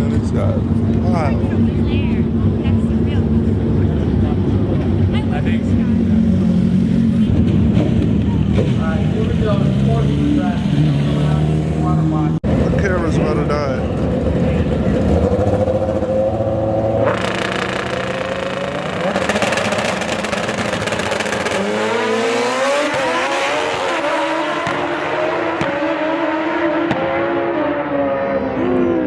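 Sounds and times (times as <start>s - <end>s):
motorcycle engines accelerating: 0.0s - 29.0s.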